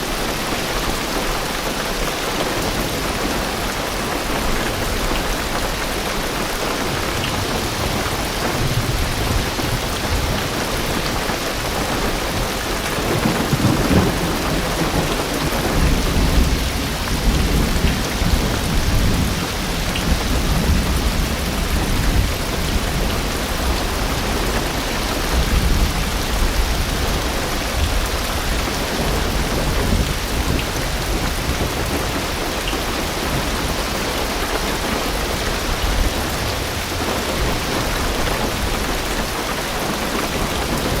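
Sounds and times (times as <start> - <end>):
heavy rain drumming on car roof: 0.0 - 41.0
low rumble of thunder: 2.6 - 41.0.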